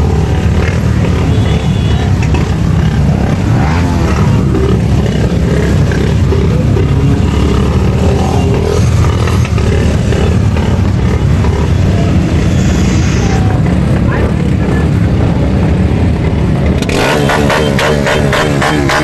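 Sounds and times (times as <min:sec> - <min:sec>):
motorcycle engines rumbling: 0:00.0 - 0:19.0.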